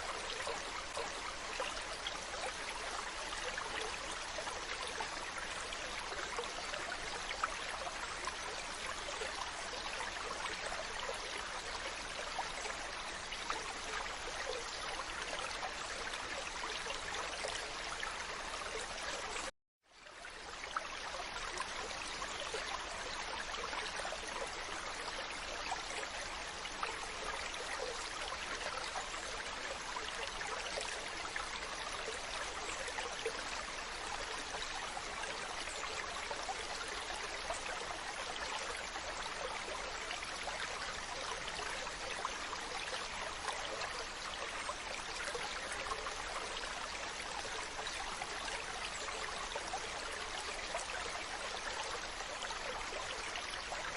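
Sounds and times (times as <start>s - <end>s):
trickling water: 0.0s - 53.9s.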